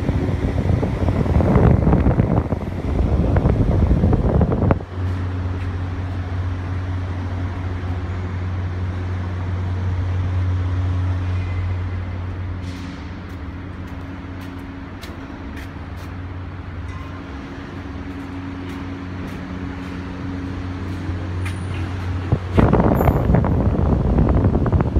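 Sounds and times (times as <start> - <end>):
exhaust fan humming: 0.0 - 16.9, 17.6 - 24.9.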